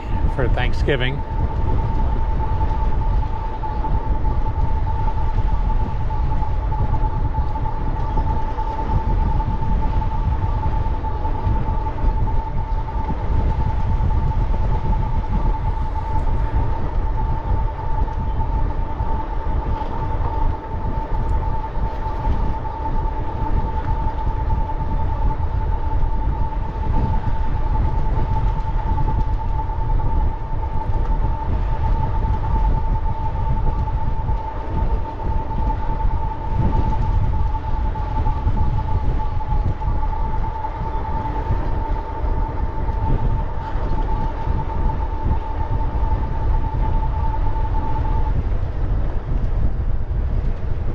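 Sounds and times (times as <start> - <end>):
steady high whine: 0.0 - 50.9
wind buffeting microphone: 0.0 - 50.9.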